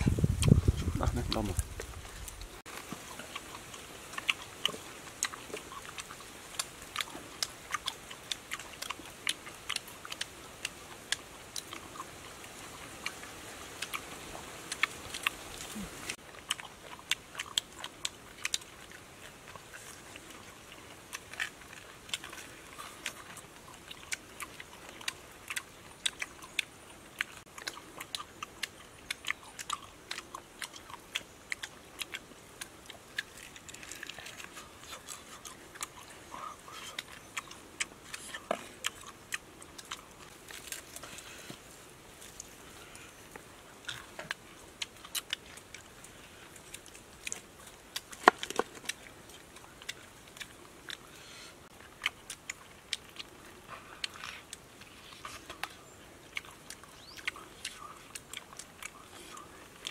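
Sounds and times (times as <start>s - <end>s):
mouth smacks and clicks: 0.0s - 13.2s, 13.8s - 41.6s, 46.6s - 51.0s, 52.0s - 59.9s
people chewing meat: 0.0s - 59.9s.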